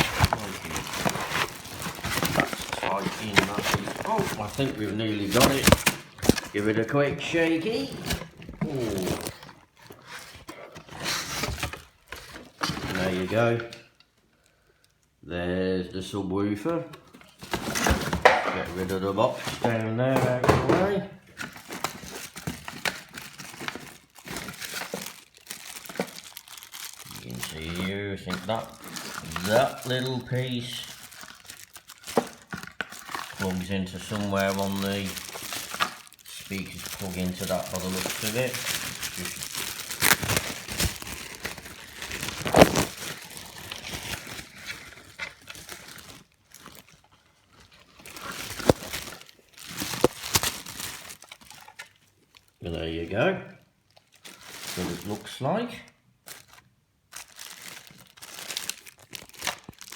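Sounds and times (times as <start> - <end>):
packaging crinkling: 0.0 - 14.9, 17.2 - 52.7, 53.9 - 55.4, 56.2 - 59.9.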